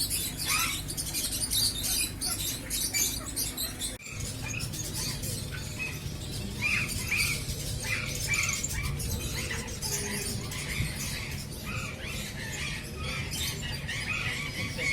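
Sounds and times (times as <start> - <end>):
birds chattering and chirping: 0.0 - 14.9
high bird twittering: 0.0 - 14.9
low steady rumble: 0.0 - 14.9.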